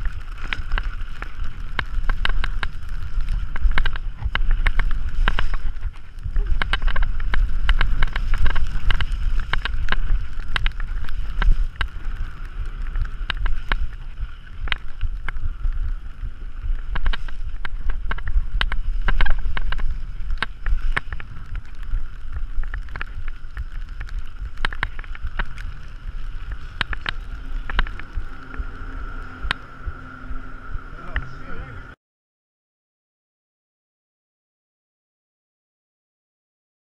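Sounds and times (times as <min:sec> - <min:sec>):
bike clicks and clatter: 0:00.0 - 0:31.4
wind rumbling on microphone: 0:00.0 - 0:32.0.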